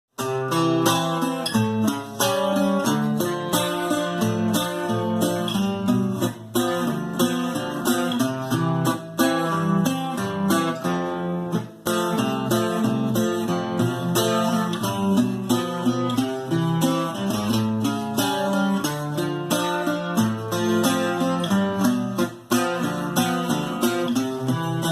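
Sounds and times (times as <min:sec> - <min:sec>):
guitar picked and strummed: 0:00.1 - 0:24.9.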